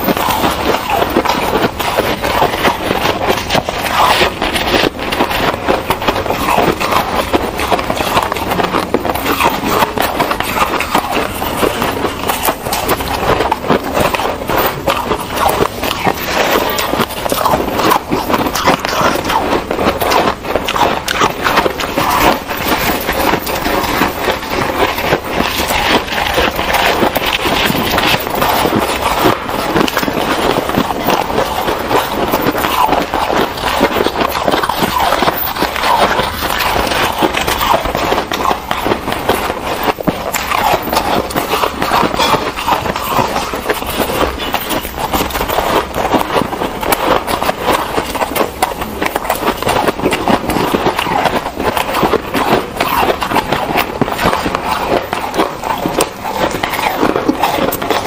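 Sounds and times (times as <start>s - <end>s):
ice crunching and chewing: 0.0s - 58.0s.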